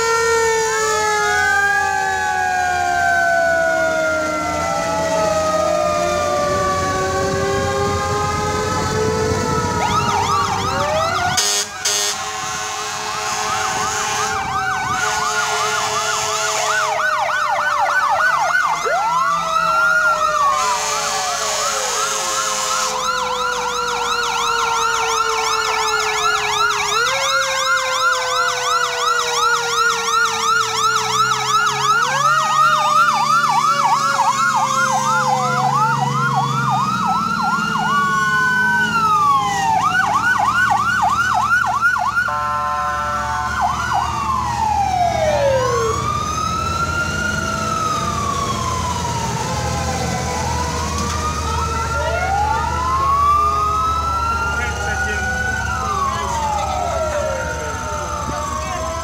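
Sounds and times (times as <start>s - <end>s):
fire truck siren wail: 0.0s - 59.0s
fire truck siren yelp: 0.0s - 59.0s.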